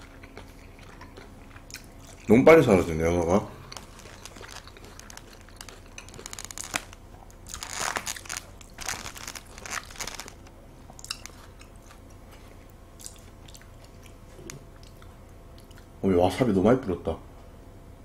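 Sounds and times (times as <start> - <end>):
wet smacking chewing: 0.0 - 2.8, 3.6 - 15.9.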